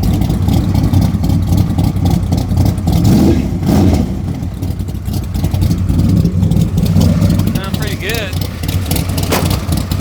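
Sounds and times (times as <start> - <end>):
vee eight engine exhaust rumbling: 0.0 - 10.0.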